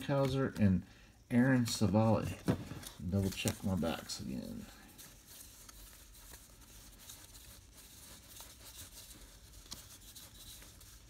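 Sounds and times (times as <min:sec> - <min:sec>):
paper cards rustling: 0:01.3 - 0:11.0.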